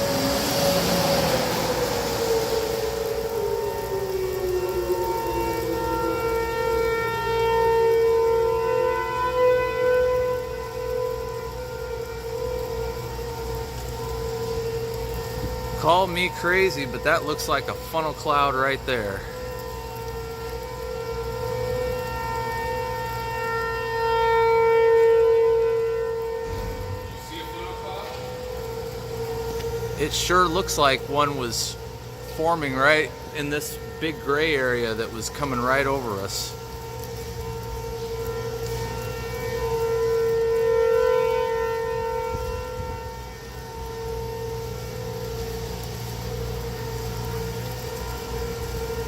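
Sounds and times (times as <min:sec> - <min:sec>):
warning siren steady pitch: 0:00.0 - 0:49.0.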